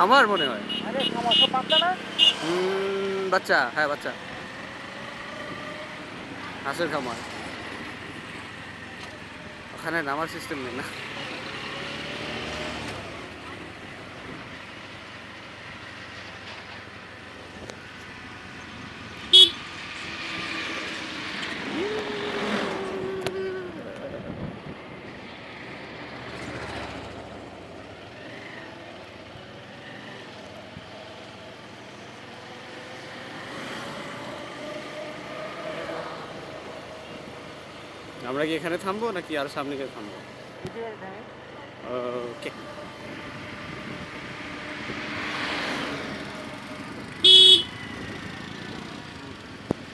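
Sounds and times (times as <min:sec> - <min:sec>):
wind and road noise: 0:00.0 - 0:49.9.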